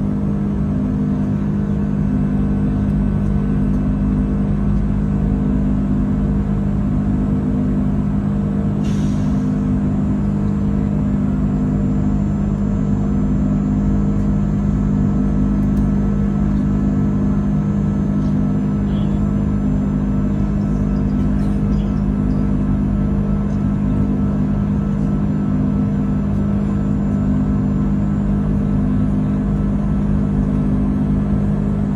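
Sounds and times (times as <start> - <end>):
jet engine cabin drone: 0.0 - 31.9.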